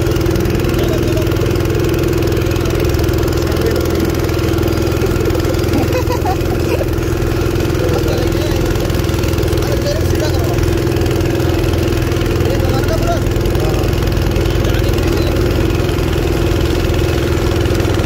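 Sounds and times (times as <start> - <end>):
go-kart engine running: 0.0 - 18.0.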